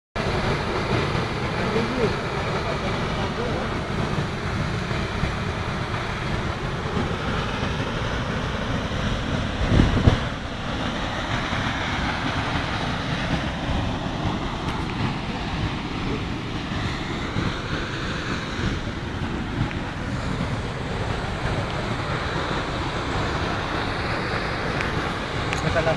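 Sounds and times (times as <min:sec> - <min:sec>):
waterfall rushing: 0:00.2 - 0:25.9
wind buffeting microphone: 0:00.2 - 0:25.9.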